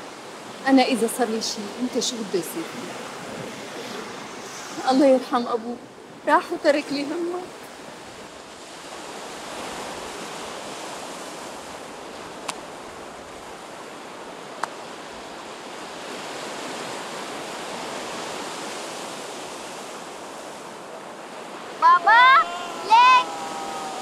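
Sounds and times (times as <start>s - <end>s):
waves breaking on beach: 0.0s - 24.0s.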